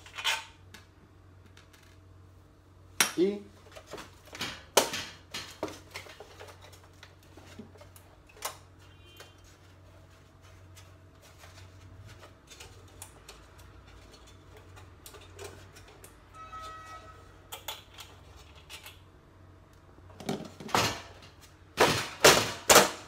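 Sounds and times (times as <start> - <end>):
low steady hum: 0.0 - 22.1.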